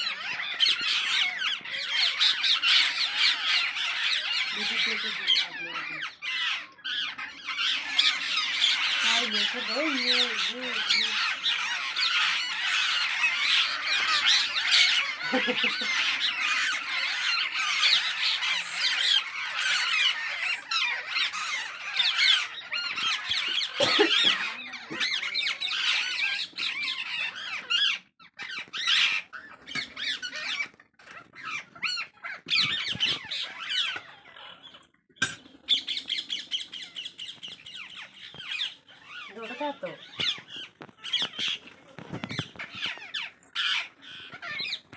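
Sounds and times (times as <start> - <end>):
parakeets squawking: 0.0 - 44.9.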